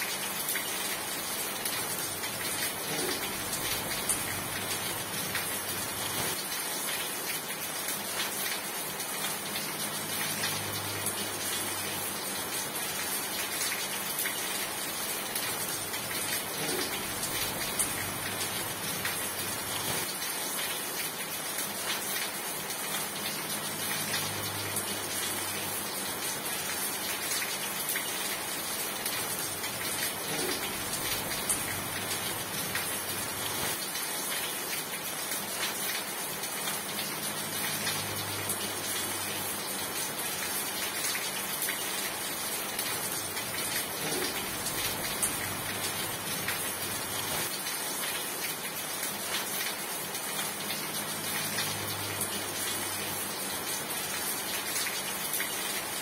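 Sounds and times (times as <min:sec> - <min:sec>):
individual raindrops: 0:00.0 - 0:56.0
rain falling: 0:00.0 - 0:56.0.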